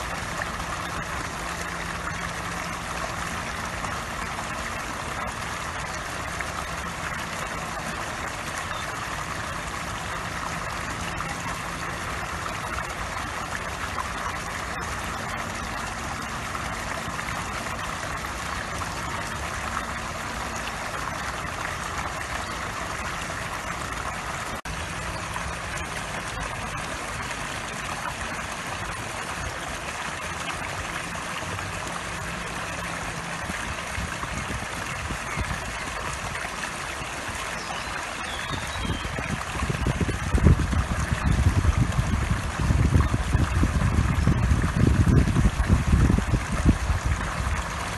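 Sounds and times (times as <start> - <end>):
fountain water splashing: 0.0 - 47.9.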